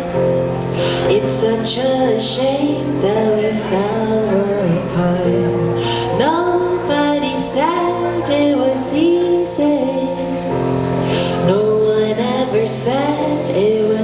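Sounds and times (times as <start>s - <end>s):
sustained accompaniment chords: 0.0s - 14.0s
woman singing a slow ballad: 0.0s - 14.0s.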